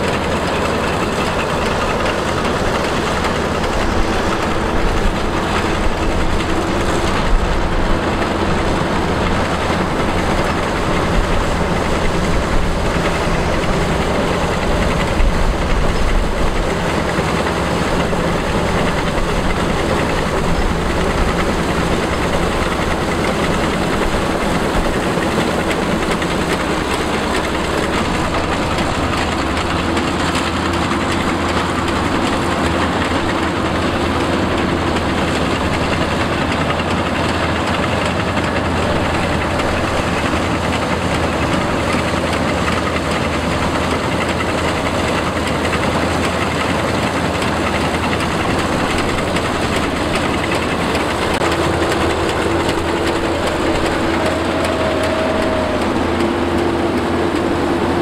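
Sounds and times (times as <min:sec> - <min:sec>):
combine harvester machinery clatter: 0:00.0 - 0:58.0.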